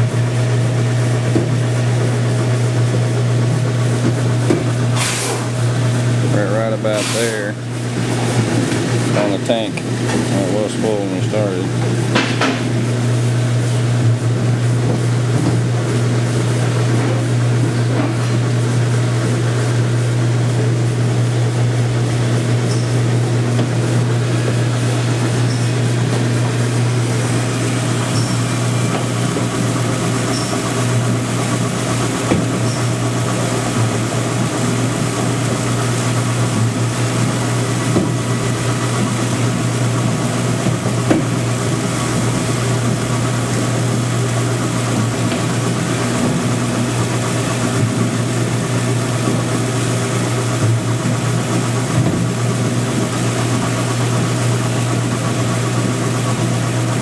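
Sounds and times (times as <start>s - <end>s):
pump low mechanical hum: 0.0s - 57.0s.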